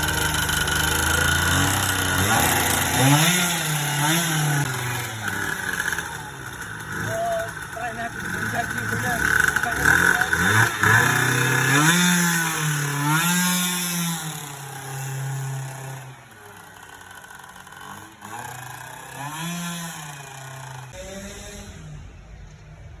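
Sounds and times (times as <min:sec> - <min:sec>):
two-stroke scooter engine revving: 0:00.0 - 0:22.3.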